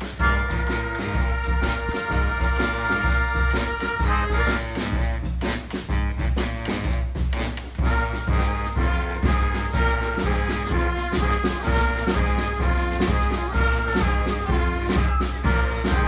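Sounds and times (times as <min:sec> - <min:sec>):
brass band playing rock: 0:00.0 - 0:16.0
drum beat: 0:00.0 - 0:16.0.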